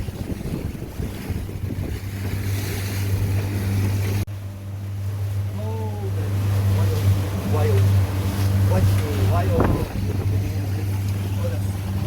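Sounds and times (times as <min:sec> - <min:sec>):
boat engine droning: 0:00.0 - 0:12.0
water noise: 0:00.0 - 0:12.0
wind: 0:00.0 - 0:12.0.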